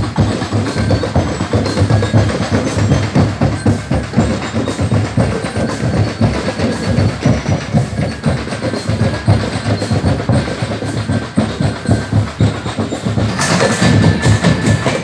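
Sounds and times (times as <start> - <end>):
marching drum band: 0.0 - 15.0.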